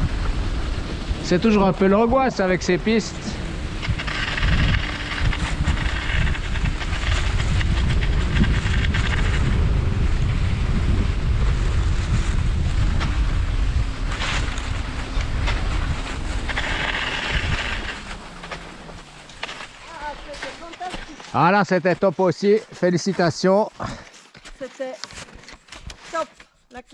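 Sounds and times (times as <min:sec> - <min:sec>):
wind buffeting the microphone: 0:00.0 - 0:24.1
skis gliding on snow: 0:00.0 - 0:26.9.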